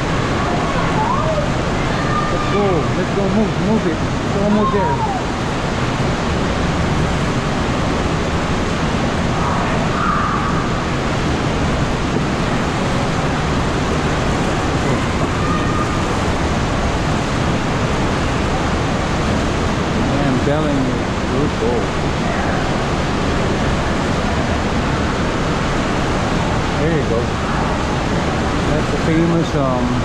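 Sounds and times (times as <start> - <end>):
creek flowing over rocks: 0.0 - 30.0.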